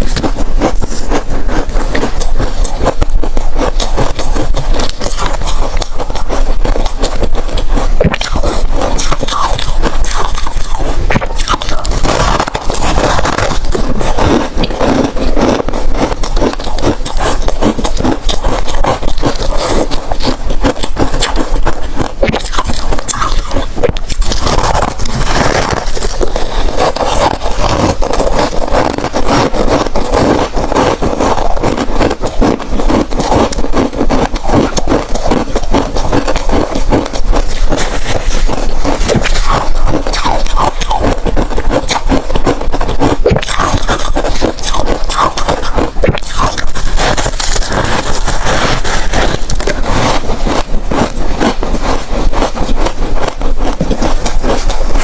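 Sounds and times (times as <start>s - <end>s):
ice crunching between teeth: 0.0s - 55.0s.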